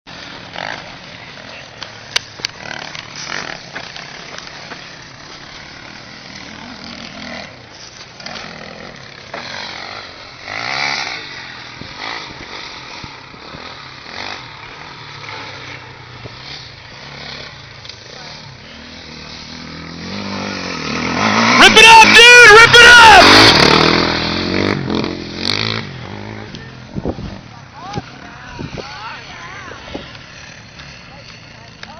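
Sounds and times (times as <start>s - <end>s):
dirt bike engines revving: 0.1s - 31.9s.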